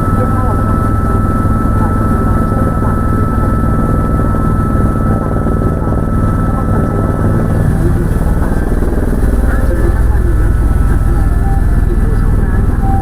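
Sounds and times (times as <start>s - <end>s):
helicopter rotor and engine: 0.0s - 13.0s
high steady whine: 0.0s - 13.0s.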